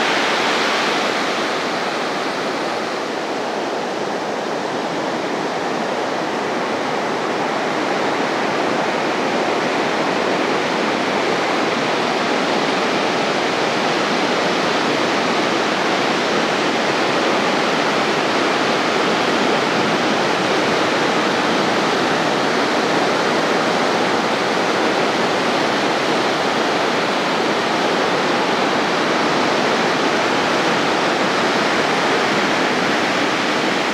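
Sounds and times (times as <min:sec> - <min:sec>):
ocean waves breaking on beach: 0:00.0 - 0:33.9.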